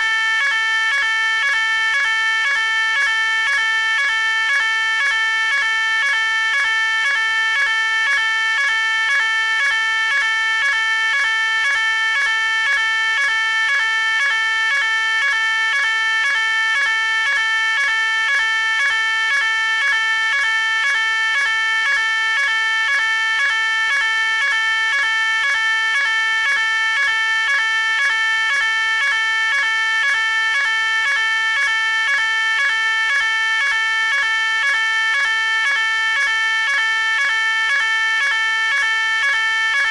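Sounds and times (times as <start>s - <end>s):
pulsing fire alarm tone: 0.0s - 39.9s.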